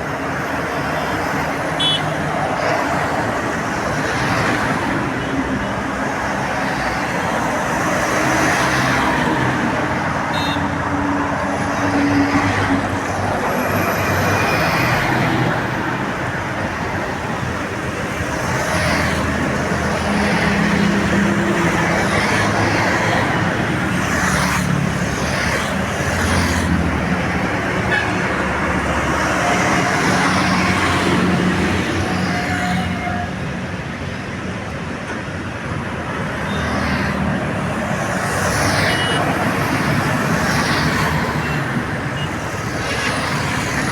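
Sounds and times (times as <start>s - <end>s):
tyres on road: 0.0s - 43.9s
vehicles passing: 0.0s - 43.9s.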